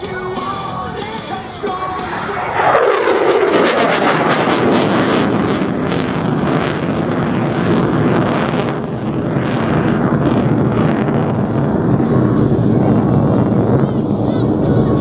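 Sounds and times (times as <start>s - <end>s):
fighter jet engine passing: 0.0s - 15.0s.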